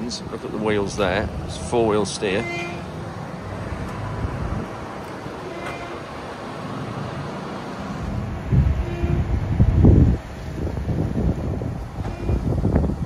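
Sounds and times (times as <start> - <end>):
wind buffeting microphone: 0.0 - 6.4, 7.7 - 13.0
lorry engine rumbling: 0.0 - 13.0.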